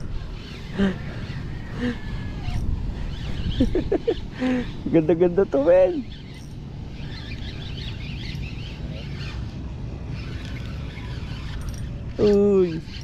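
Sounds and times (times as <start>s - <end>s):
fishing reel being cranked: 0.0s - 3.7s, 4.7s - 13.0s.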